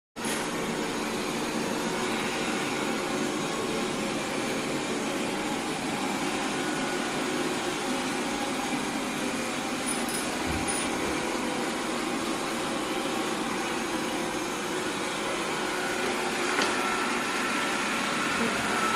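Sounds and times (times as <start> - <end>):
robot vacuum whirring hum: 0.2 - 18.9.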